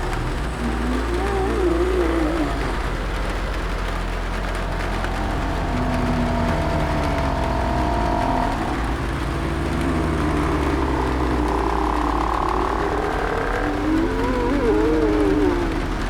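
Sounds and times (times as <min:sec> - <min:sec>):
steady low rumble: 0:00.0 - 0:16.0
zombie moans: 0:00.0 - 0:16.0.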